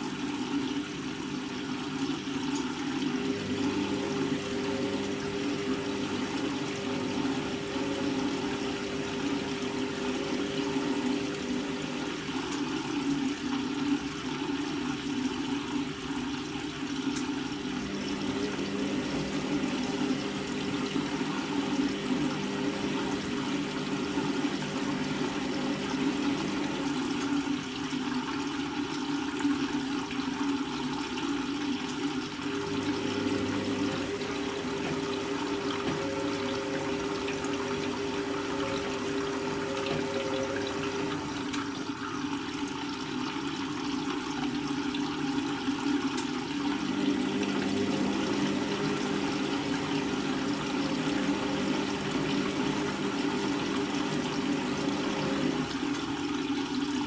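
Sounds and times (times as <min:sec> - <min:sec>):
laundry sloshing in washing machine: 0:00.0 - 0:57.0
washing machine motor hum: 0:00.0 - 0:57.0.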